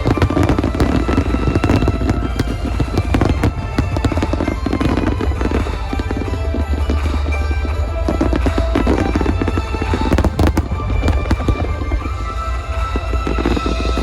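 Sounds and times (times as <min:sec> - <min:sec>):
deep rumble: 0:00.0 - 0:14.0
fireworks bursting and crackling: 0:00.0 - 0:14.0.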